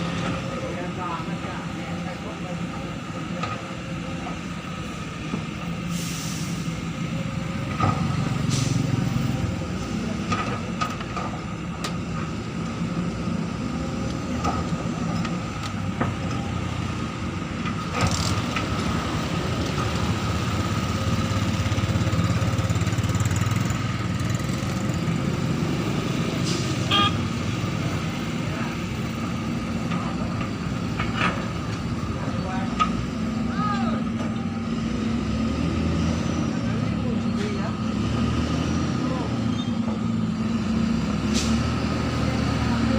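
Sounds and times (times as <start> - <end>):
excavator diesel engines working: 0.0 - 42.9.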